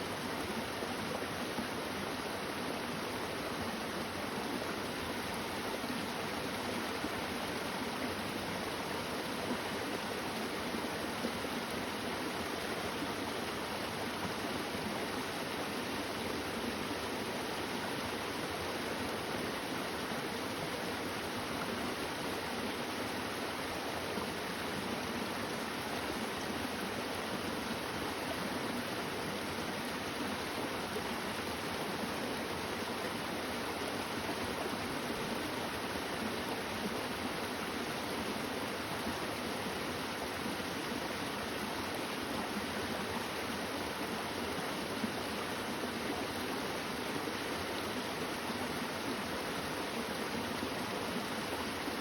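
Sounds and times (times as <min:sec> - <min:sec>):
flowing stream: 0:00.0 - 0:52.0.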